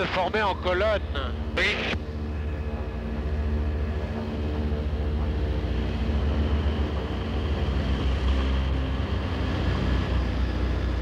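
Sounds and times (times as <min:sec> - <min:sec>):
plane engine droning: 0:00.0 - 0:11.0.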